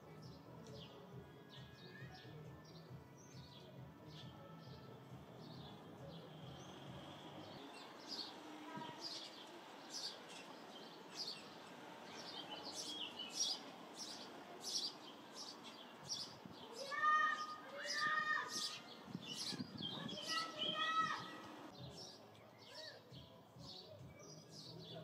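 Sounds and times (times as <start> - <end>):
sparrows chirping: 0.0 - 25.0.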